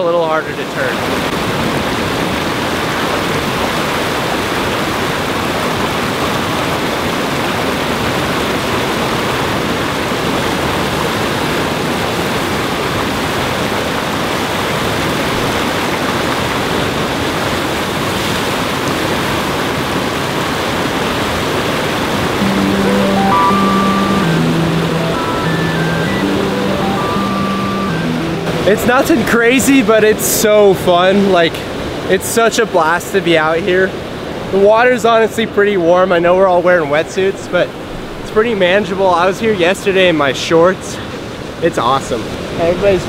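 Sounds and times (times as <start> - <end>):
whitewater rushing: 0.4 - 35.0.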